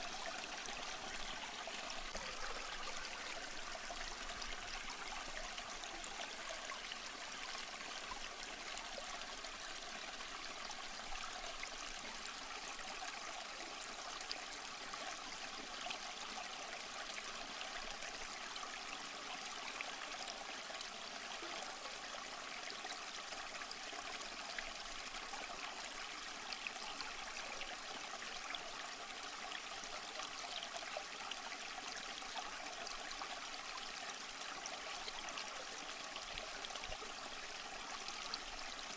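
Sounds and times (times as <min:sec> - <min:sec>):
stream trickling over rocks: 0:00.0 - 0:38.9.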